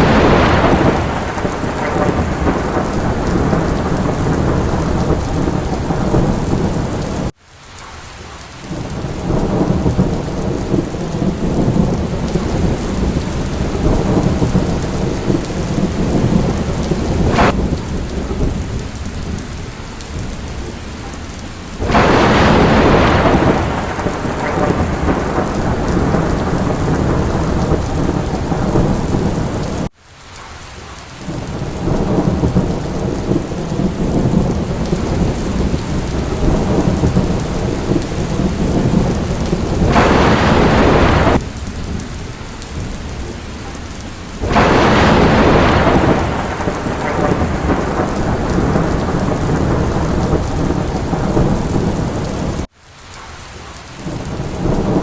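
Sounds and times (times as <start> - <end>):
rumbling thunder: 0.0 - 7.3, 8.7 - 29.9, 31.2 - 52.7, 54.0 - 55.0
sharp thunder crack: 0.0 - 7.3, 9.3 - 19.4, 21.8 - 29.9, 31.3 - 42.0, 44.4 - 52.7
steady rain: 0.0 - 55.0.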